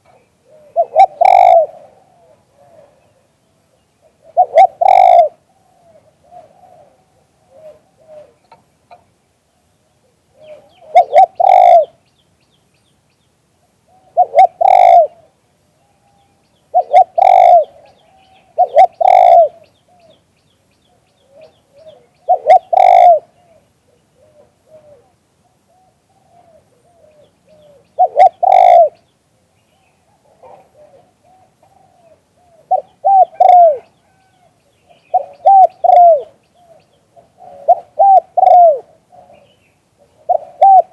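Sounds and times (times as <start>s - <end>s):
dove cooing: 0.0s - 3.4s, 4.0s - 9.0s, 10.0s - 12.0s, 13.9s - 20.2s, 21.2s - 29.0s, 30.0s - 40.9s.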